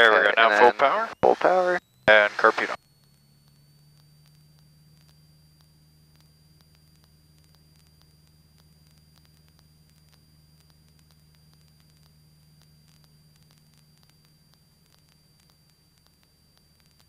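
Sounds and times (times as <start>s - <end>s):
thin high whine: 0.0s - 16.8s
faint low hum: 0.0s - 17.0s
faint static clicks: 0.0s - 17.0s.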